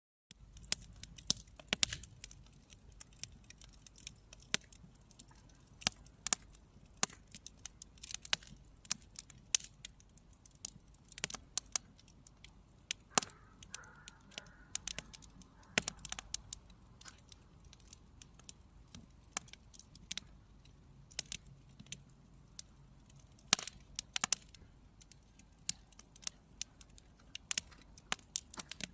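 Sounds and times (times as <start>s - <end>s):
campfire crackling and popping: 0.3s - 28.9s
low steady hiss: 0.3s - 28.9s.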